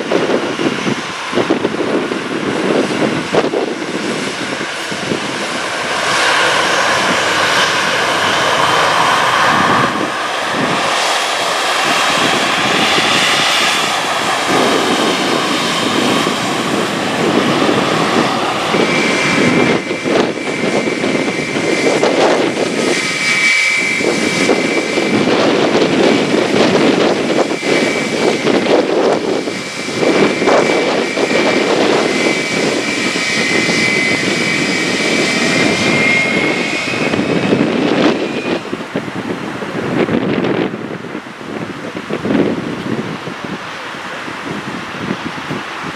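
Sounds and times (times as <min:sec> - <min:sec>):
high jet engine whine: 0:00.0 - 0:45.9
jet engines roaring: 0:00.0 - 0:45.9.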